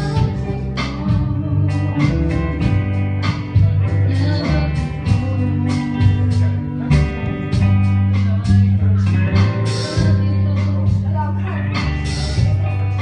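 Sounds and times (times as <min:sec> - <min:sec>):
guitar plucked notes: 0:00.0 - 0:13.0.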